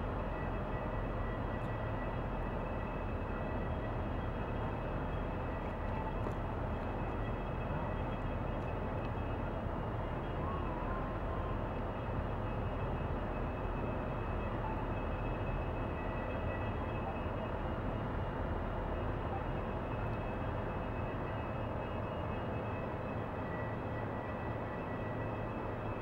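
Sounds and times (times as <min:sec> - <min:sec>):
ship engine low rumble: 0:00.0 - 0:26.0.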